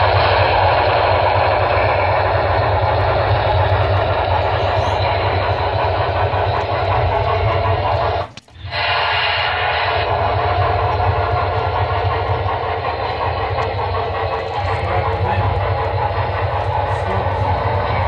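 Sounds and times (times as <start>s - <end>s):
model train locomotive sound: 0.0s - 18.0s
steady deep rumble: 0.0s - 18.0s.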